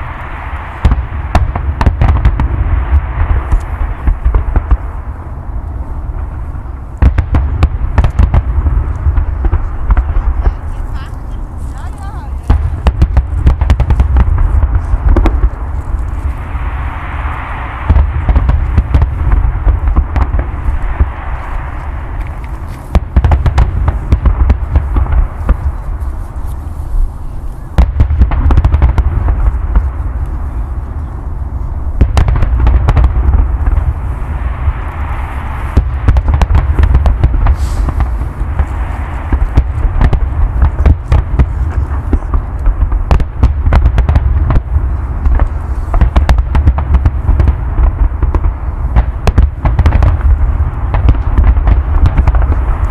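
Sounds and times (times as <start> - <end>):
fireworks bangs and crackles: 0.0 - 52.9
low rumble: 0.0 - 52.9.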